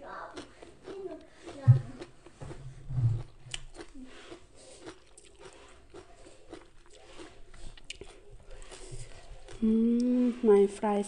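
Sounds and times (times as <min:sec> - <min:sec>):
person chewing crunchy salad: 0:00.1 - 0:10.2.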